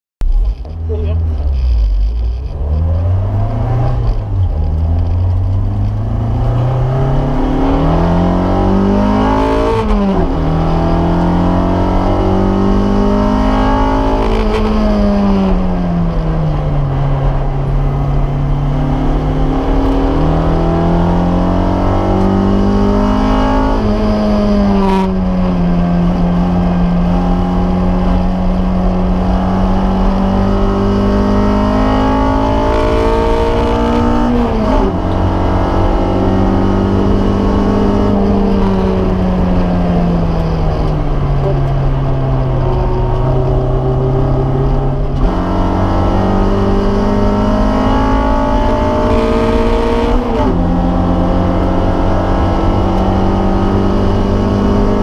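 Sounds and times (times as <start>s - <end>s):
car engine accelerating hard: 0.2s - 55.0s.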